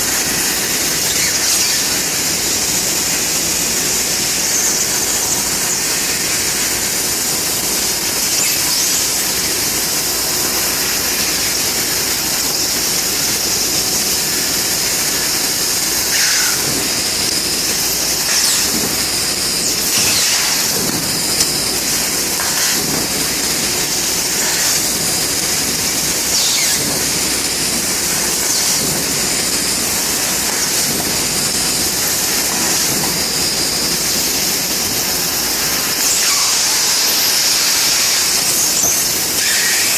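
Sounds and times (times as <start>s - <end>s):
laser cutter high-pitched hiss: 0.0s - 39.9s.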